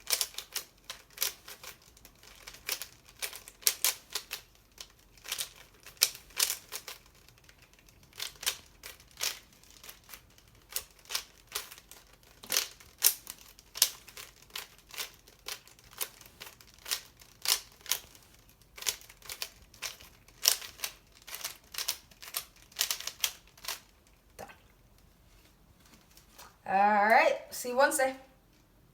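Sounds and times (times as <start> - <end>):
plastic puzzle cube clicking: 0.0 - 24.3.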